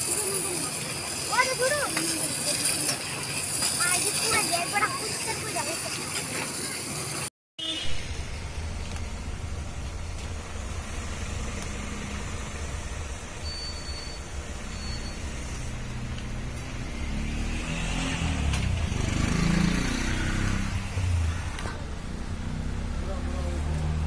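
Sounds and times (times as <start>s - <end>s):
vehicle engine rumbling: 0.0s - 24.0s.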